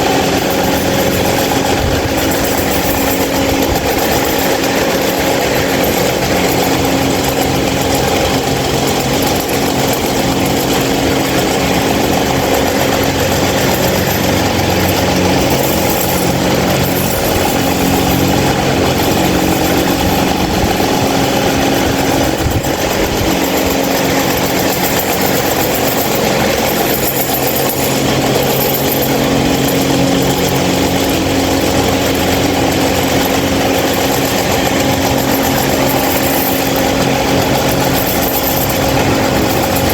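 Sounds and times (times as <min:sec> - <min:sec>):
fan motor hum: 0:00.0 - 0:39.9.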